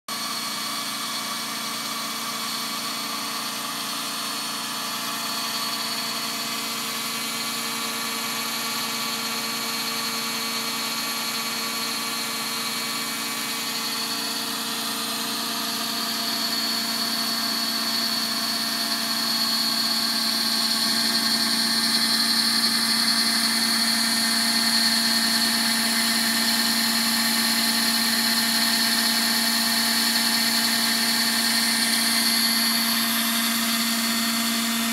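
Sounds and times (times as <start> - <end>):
motor-driven cutter whining: 0.2 - 34.9.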